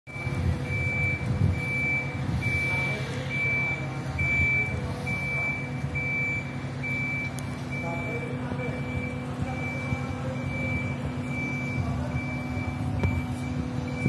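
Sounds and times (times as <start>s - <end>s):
engine humming: 0.1s - 14.0s
high warning beeps: 0.1s - 14.0s.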